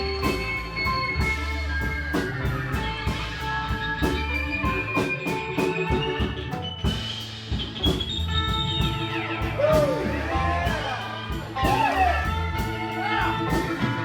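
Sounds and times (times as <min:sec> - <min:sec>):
bass guitar: 0:00.0 - 0:14.0
drum kit beating: 0:00.0 - 0:14.0
electric guitar notes: 0:00.0 - 0:14.0.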